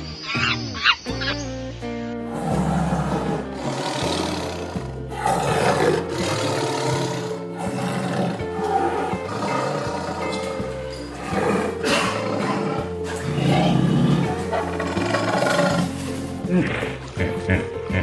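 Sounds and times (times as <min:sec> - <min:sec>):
music with steady bass line: 0:00.0 - 0:18.0
harsh animal roars: 0:02.3 - 0:17.3.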